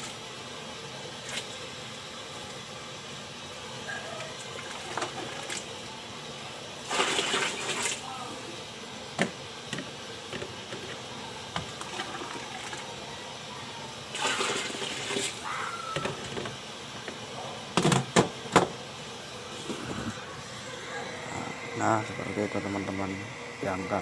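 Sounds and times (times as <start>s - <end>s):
hot water pouring and splashing: 0.0s - 20.7s.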